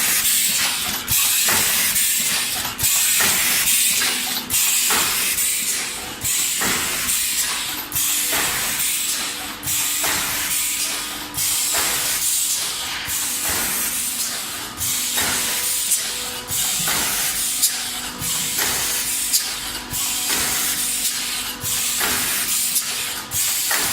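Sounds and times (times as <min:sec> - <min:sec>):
machine hissing: 0:00.0 - 0:23.9.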